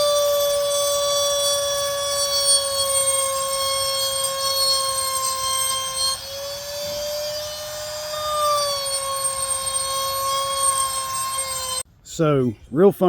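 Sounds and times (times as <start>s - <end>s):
rotary tool whining cutting wood: 0.0s - 11.9s.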